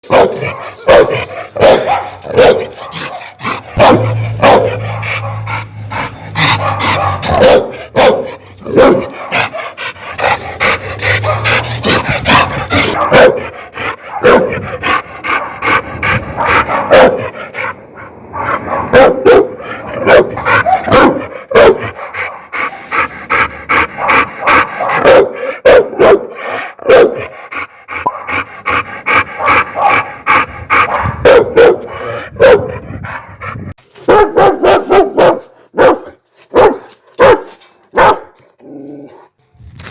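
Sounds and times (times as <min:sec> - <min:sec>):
dogs barking loudly: 0:00.0 - 0:38.5.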